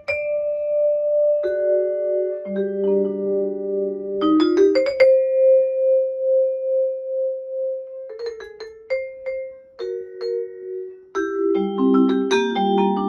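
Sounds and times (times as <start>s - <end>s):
jazz vibraphone: 0.0s - 13.0s.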